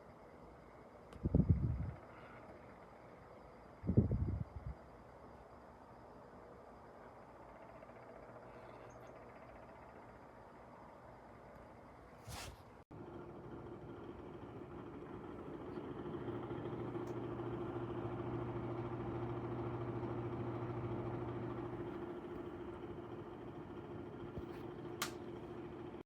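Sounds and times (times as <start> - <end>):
fan rushing air with motor hum: 0.0 - 26.0.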